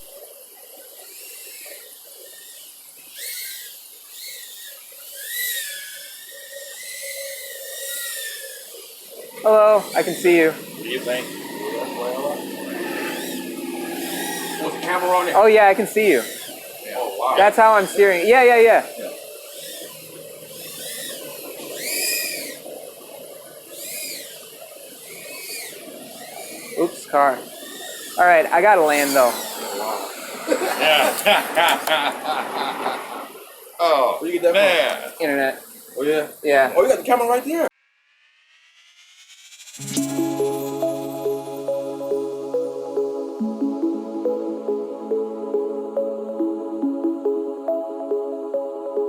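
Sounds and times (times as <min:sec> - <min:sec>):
drone motors whining: 0:00.0 - 0:37.6, 0:38.2 - 0:49.0.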